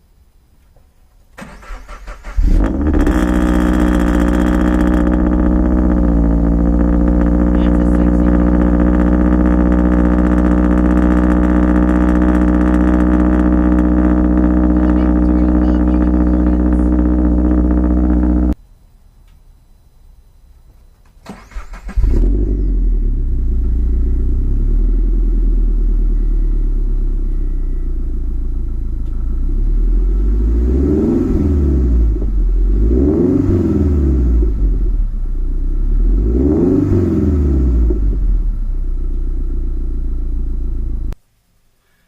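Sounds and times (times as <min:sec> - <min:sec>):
car engine starting and revving: 0:01.4 - 0:18.6, 0:21.2 - 0:41.2.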